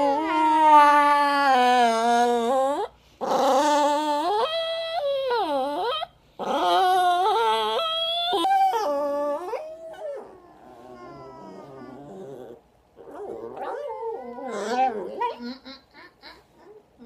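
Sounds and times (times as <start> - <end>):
dog whining: 0.0 - 15.6.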